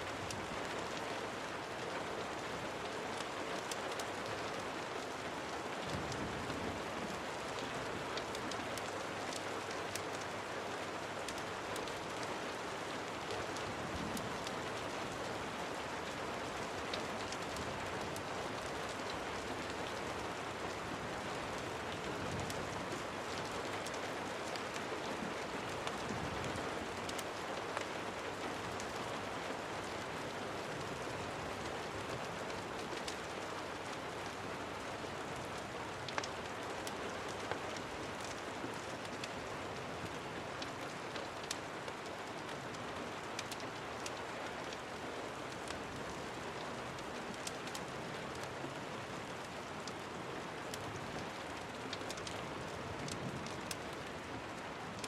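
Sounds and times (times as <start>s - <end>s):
rain drips and ticks: 0.0s - 55.0s
steady rain hiss: 0.0s - 55.0s.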